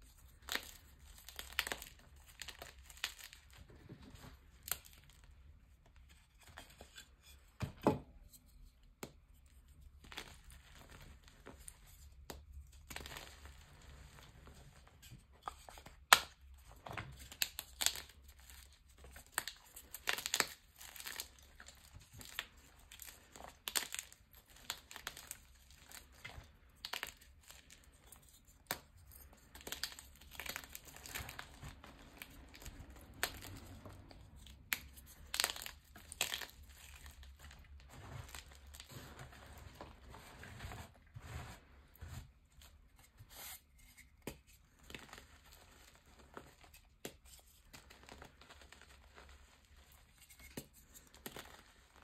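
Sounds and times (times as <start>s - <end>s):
chalk crunching and crumbling: 0.0s - 5.4s, 9.4s - 52.0s.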